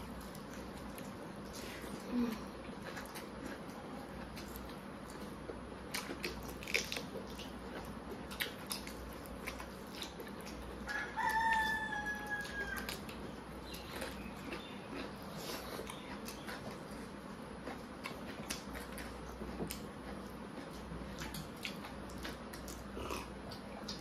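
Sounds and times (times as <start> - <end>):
chewing and eating sounds: 0.0 - 24.0.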